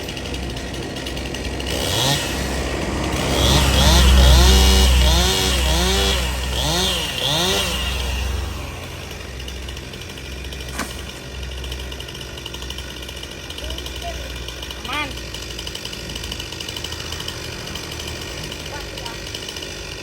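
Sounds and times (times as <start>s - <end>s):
chainsaw engine revving and idling: 0.0s - 20.0s.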